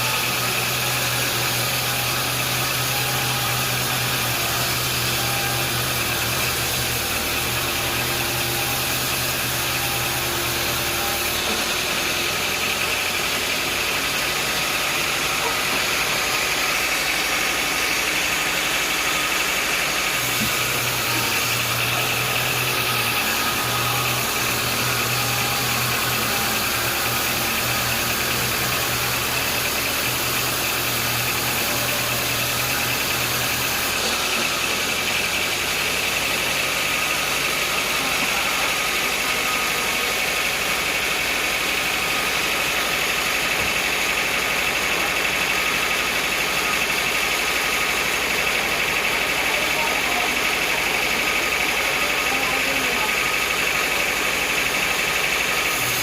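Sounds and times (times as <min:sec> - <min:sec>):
sawmill machinery whine: 0:00.0 - 0:56.0.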